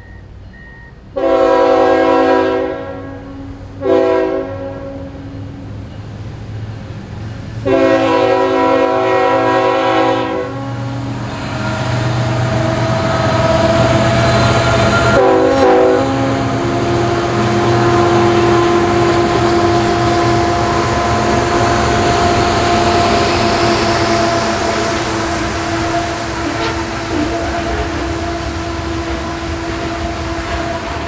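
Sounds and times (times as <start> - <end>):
train rolling on rails: 0.0 - 31.0
train horn blasts: 1.2 - 5.4, 7.6 - 31.0.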